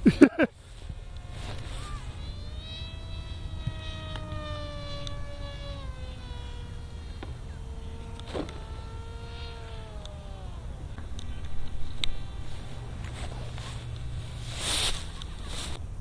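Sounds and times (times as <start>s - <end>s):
distant model plane motor buzzing: 0.0s - 16.0s.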